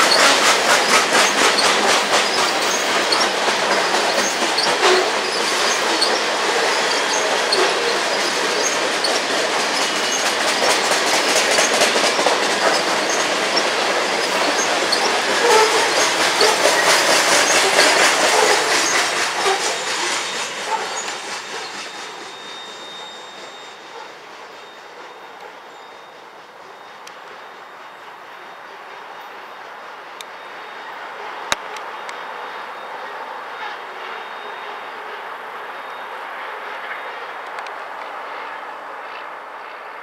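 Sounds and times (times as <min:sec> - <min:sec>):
train wheels clattering over rails: 0:00.0 - 0:40.0.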